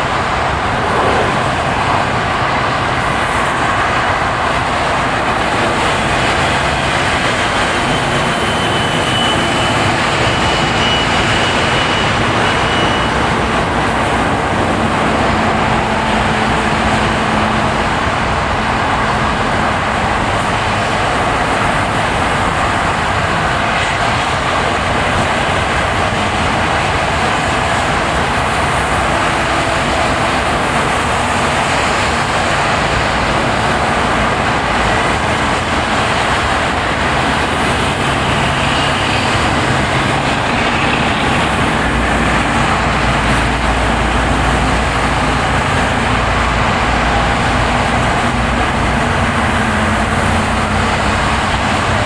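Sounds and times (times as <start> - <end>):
tyres on snowy road: 0.0 - 52.0.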